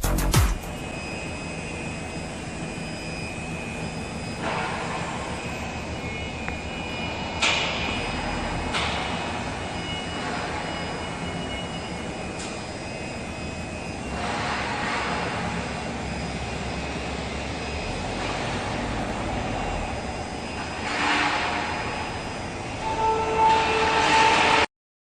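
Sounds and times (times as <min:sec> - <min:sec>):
milling machine spindle whine: 0:00.6 - 0:24.7.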